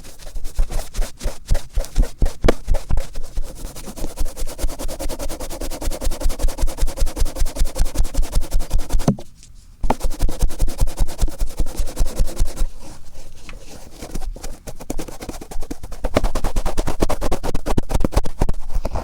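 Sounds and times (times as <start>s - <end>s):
cotton swab scratching in ear: 0.0s - 9.1s, 9.8s - 19.0s.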